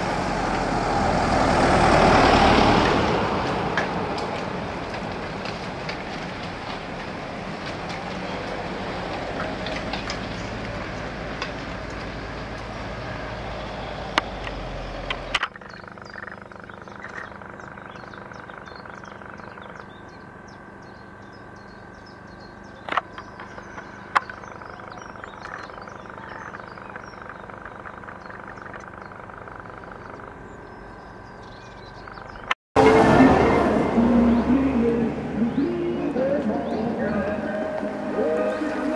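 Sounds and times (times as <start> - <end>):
birds chirping: 6.5 - 38.9.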